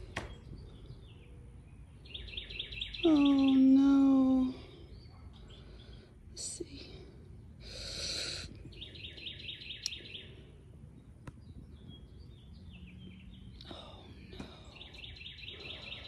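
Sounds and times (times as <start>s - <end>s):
small bird chirping: 0.2s - 6.8s, 7.8s - 16.0s.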